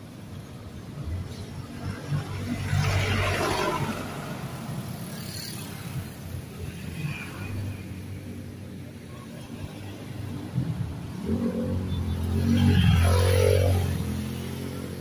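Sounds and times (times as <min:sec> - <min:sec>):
motorcycles passing: 0:00.0 - 0:15.0.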